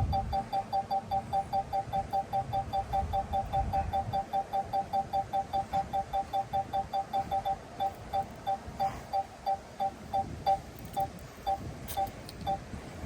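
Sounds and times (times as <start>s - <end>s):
two-tone electronic beeps: 0.0s - 12.6s.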